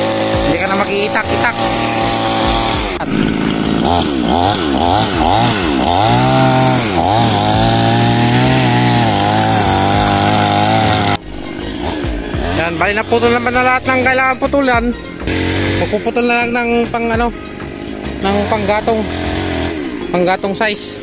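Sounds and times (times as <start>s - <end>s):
chainsaw revving and cutting: 0.0s - 20.4s.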